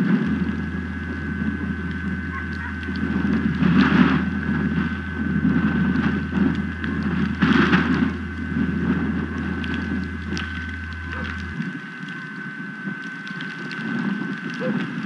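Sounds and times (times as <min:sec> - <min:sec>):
high electrical whine: 0:00.0 - 0:15.0
wind buffeting microphone: 0:00.0 - 0:15.0.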